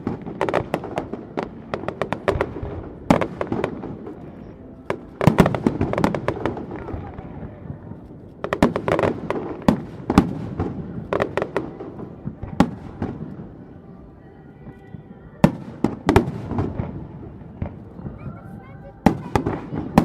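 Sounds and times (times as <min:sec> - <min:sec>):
fireworks bangs with echoes: 0:00.0 - 0:13.8, 0:14.9 - 0:20.0.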